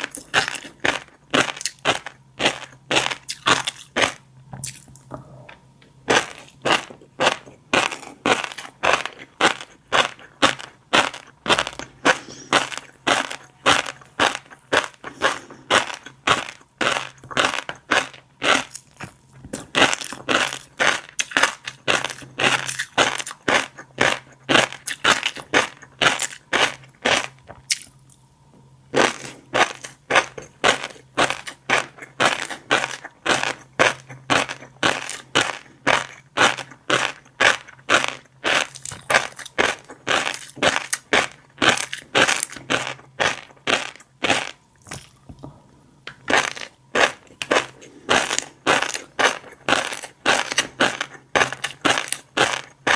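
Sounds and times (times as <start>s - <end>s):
chewing popping fish roe: 0.0s - 52.9s.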